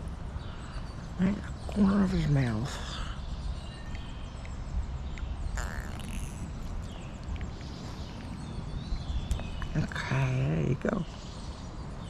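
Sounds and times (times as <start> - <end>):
bird chirps: 0.0 - 12.0
wind: 0.0 - 12.0.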